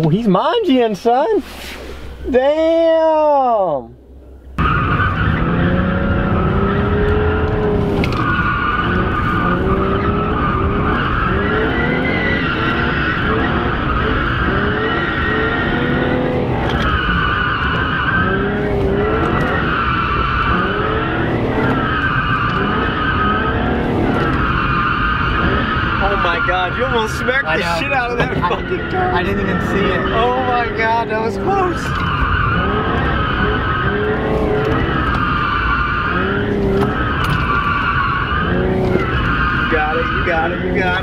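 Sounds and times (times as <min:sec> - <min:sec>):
car engine revving: 0:04.1 - 0:41.0
tires squealing: 0:04.4 - 0:41.0.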